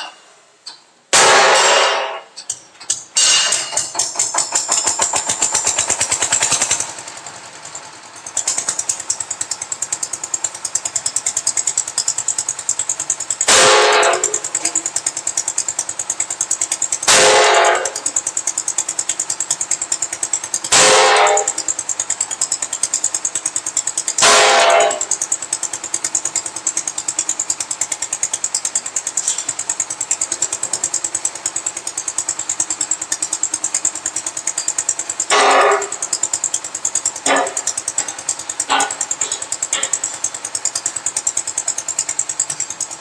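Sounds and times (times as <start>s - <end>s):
concrete mixer clanking: 0.0s - 43.0s
concrete mixer engine running: 0.0s - 43.0s.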